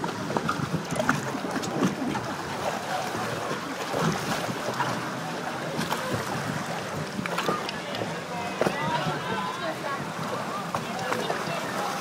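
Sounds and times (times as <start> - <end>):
boat knocks: 0.0 - 12.0
water rushing and splashing: 0.0 - 12.0.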